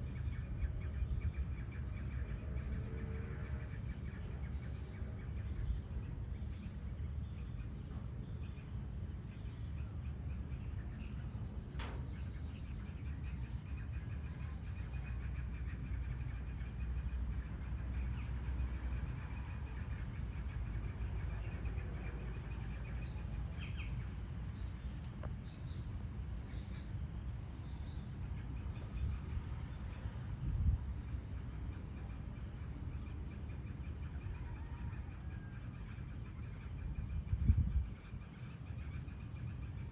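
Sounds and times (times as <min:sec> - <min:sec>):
crickets chirping: 0:00.0 - 0:39.9
high insect drone: 0:00.0 - 0:39.9.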